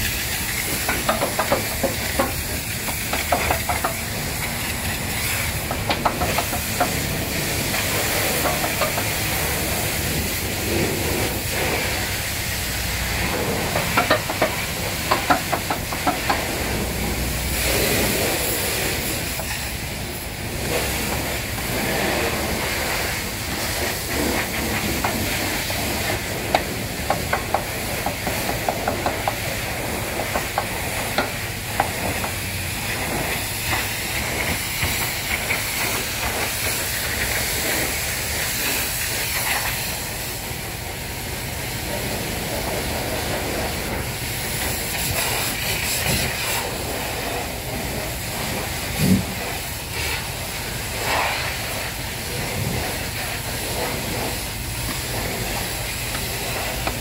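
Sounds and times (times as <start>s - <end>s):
pressure washer spraying water: 0.0s - 57.0s.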